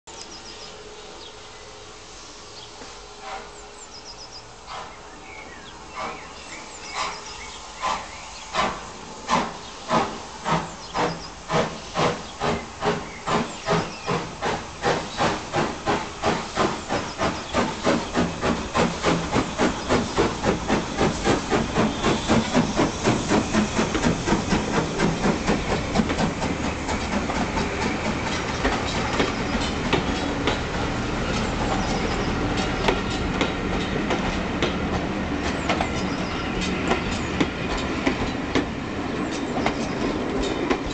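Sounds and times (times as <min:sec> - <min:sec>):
steam locomotive exhaust chuffing: 0:02.8 - 0:03.8, 0:05.9 - 0:40.9.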